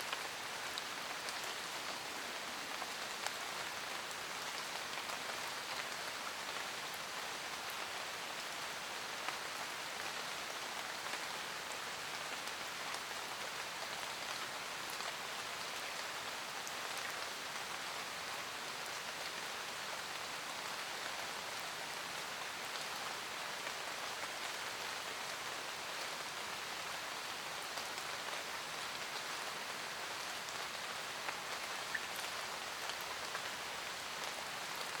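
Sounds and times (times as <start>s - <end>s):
light rain on leaves: 0.0s - 35.0s.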